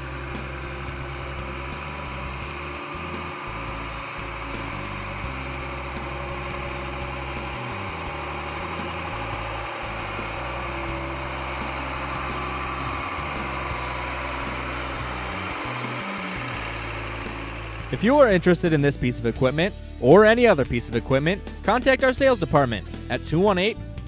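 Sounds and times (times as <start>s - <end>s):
tractor diesel engine idling: 0.0s - 20.2s.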